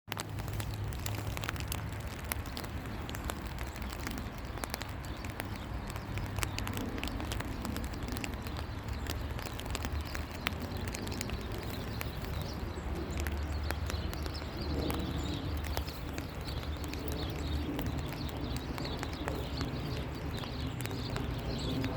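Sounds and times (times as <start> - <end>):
raindrops tapping: 0.1 - 21.9
steady low rumble: 0.1 - 21.9.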